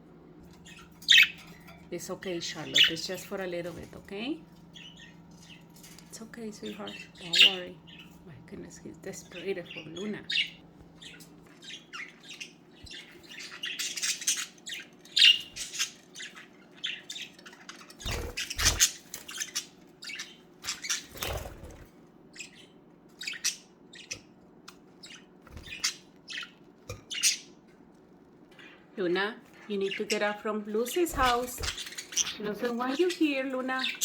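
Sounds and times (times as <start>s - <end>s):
faint steady hum: 0.0s - 34.0s
budgerigars chirping: 0.5s - 1.7s, 2.4s - 3.8s, 4.7s - 5.7s, 6.6s - 8.2s, 9.1s - 21.6s, 22.3s - 27.7s, 29.8s - 34.0s.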